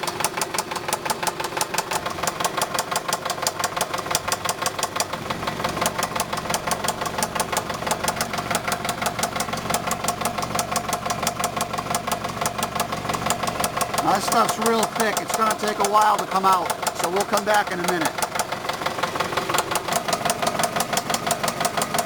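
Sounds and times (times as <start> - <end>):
car engine idling with knock: 0.0 - 22.0.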